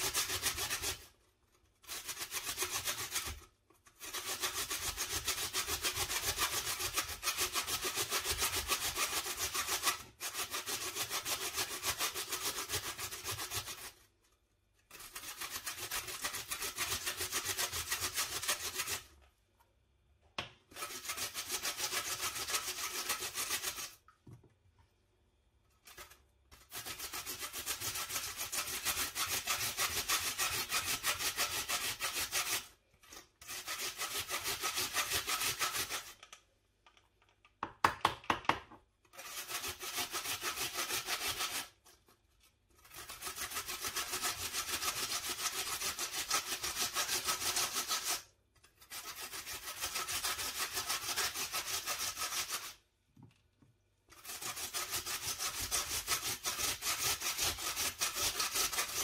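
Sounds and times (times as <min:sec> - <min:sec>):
potato scraping on metal grater: 0:00.0 - 0:14.1, 0:14.8 - 0:19.2, 0:20.7 - 0:24.0, 0:25.8 - 0:36.3, 0:39.1 - 0:52.8, 0:54.1 - 0:59.0.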